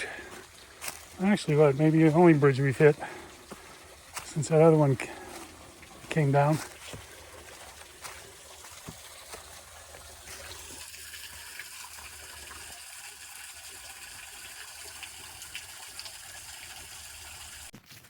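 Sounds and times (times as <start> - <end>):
creek water flowing: 0.0 - 17.7.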